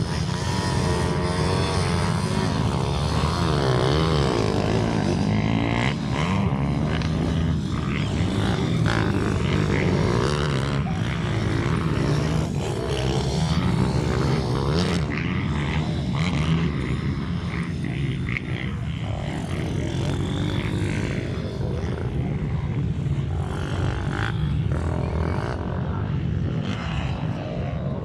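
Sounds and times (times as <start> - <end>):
minibike engines buzzing: 0.0 - 28.0.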